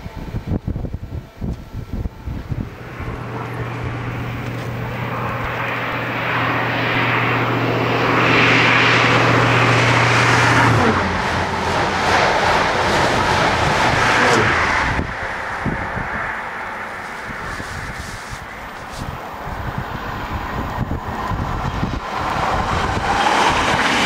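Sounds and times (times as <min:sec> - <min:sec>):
diesel train engine drone: 0:00.0 - 0:24.0
rush of passing train coaches: 0:00.0 - 0:24.0
wind buffeting microphone: 0:00.0 - 0:24.0.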